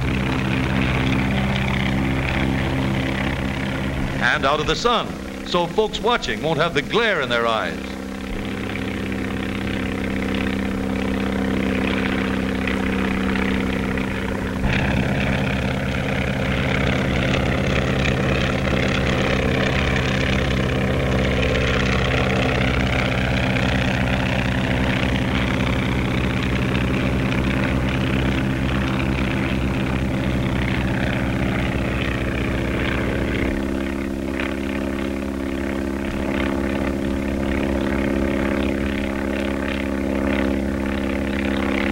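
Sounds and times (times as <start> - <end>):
biplane engine droning: 0.0 - 41.9.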